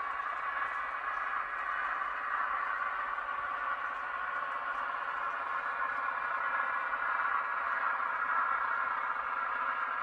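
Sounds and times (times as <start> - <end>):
diesel engine sound through speakers: 0.0 - 10.0.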